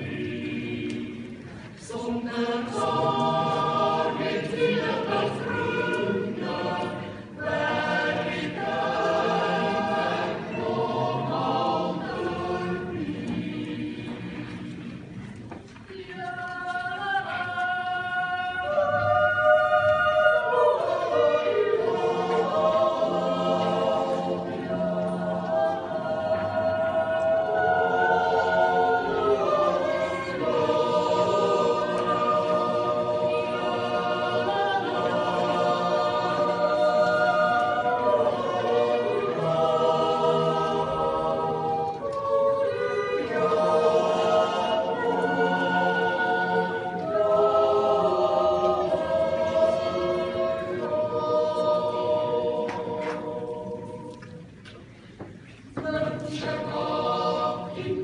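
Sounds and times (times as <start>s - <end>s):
choir singing in close harmony: 0.0s - 54.6s, 55.2s - 58.0s.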